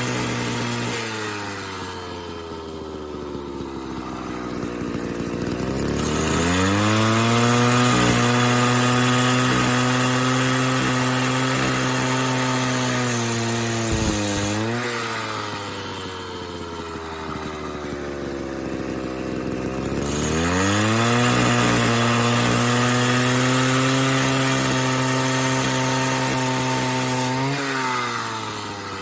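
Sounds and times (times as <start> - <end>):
cut-off saw engine revving: 0.0 - 29.0.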